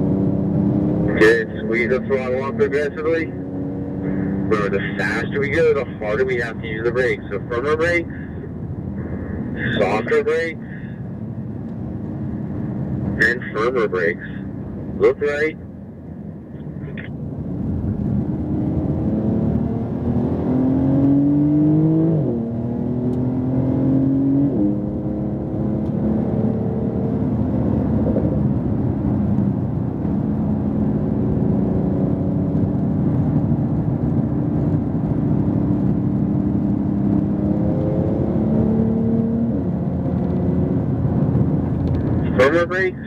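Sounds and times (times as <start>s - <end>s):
car engine accelerating: 0.0s - 43.0s
road noise: 0.0s - 43.0s.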